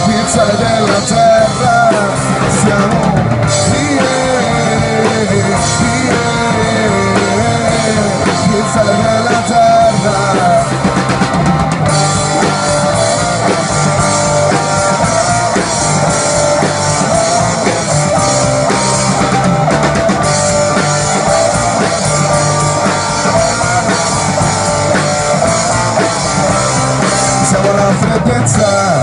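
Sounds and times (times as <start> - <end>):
bass guitar: 0.0 - 29.0
drum kit: 0.0 - 29.0
guitars: 0.0 - 29.0.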